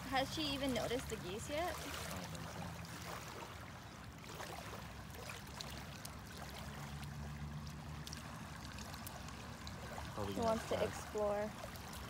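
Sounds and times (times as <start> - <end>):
small waves lapping on gravel: 0.0 - 12.0.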